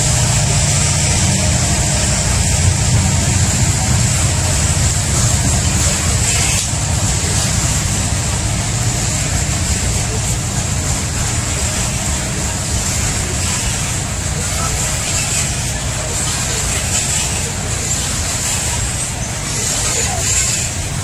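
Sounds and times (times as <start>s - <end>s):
steel wheels rumbling on track: 0.0s - 21.0s.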